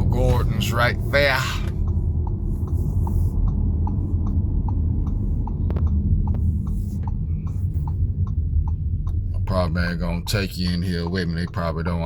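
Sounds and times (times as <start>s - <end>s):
car engine and road rumble: 0.0s - 12.0s
turn signal ticking: 0.0s - 12.0s.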